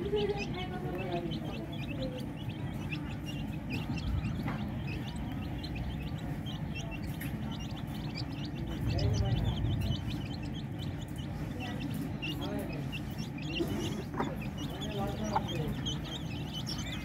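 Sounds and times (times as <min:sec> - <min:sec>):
chicks peeping: 0:00.0 - 0:17.0
low steady rumble: 0:00.0 - 0:17.0.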